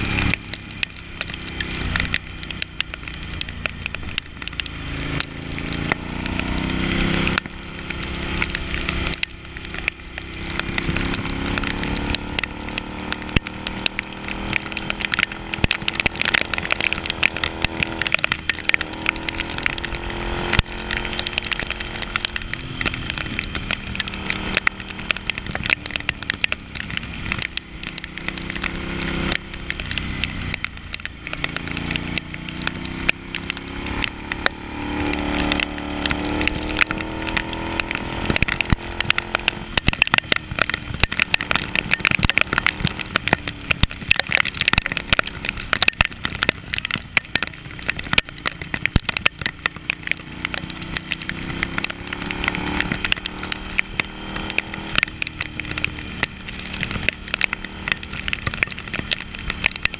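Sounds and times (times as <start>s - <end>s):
motorcycle engine revving: 0.0s - 59.9s
rain and wind crackle on camera: 0.0s - 59.9s.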